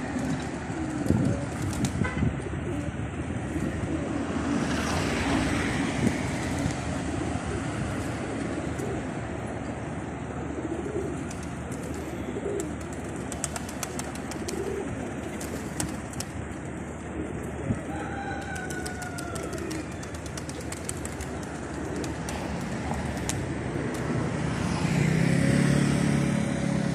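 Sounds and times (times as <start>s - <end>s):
pigeons cooing: 0.0s - 9.5s, 10.2s - 23.4s.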